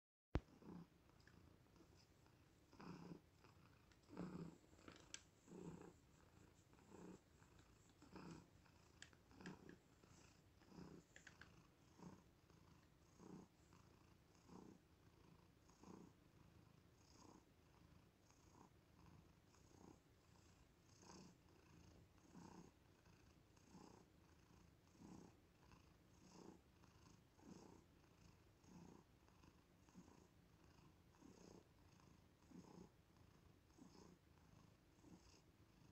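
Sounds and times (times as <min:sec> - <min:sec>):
cat purring: 0:00.4 - 0:35.9.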